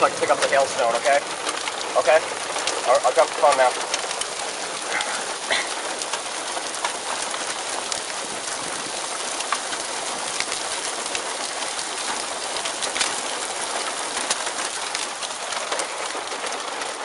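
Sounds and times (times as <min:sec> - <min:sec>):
hailstones ticking: 0:00.0 - 0:17.0
heavy rain hissing: 0:00.0 - 0:17.0.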